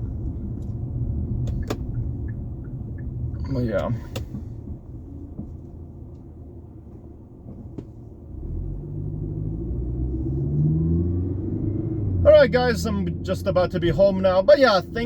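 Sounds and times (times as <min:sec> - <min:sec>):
car engine accelerating: 0:00.0 - 0:15.0
road rumble inside car: 0:00.0 - 0:15.0.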